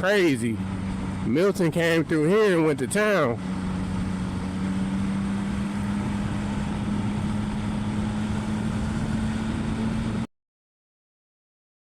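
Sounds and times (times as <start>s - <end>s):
car engine hum: 0.0s - 10.3s
road rumble: 0.0s - 10.3s.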